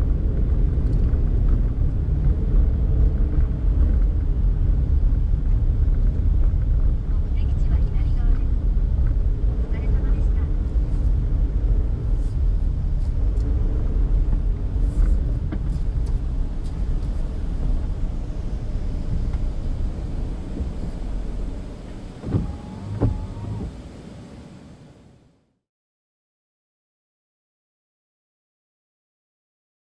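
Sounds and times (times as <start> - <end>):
engine and road rumble: 0.0 - 25.6.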